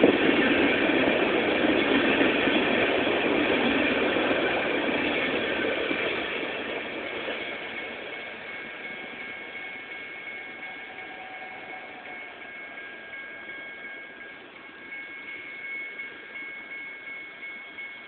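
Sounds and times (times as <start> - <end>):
freight train rumble: 0.0 - 18.0
railroad crossing bell ringing: 0.0 - 18.0.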